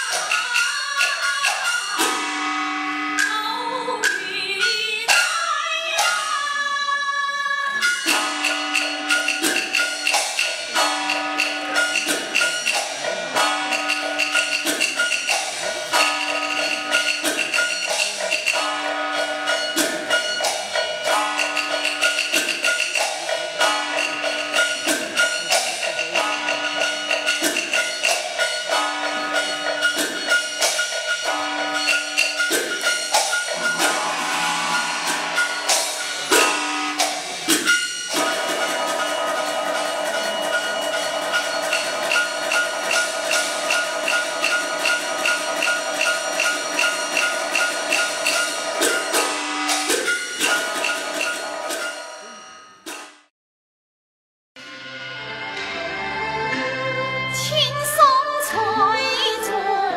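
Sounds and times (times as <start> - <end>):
fast metallic percussion: 0.0 - 6.8, 7.6 - 53.3.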